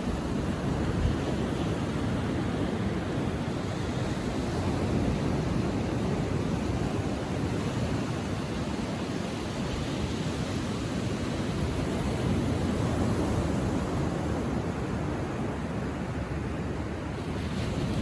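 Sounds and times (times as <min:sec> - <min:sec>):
ocean waves washing on sand: 0:00.0 - 0:18.0
wind on microphone: 0:00.0 - 0:18.0.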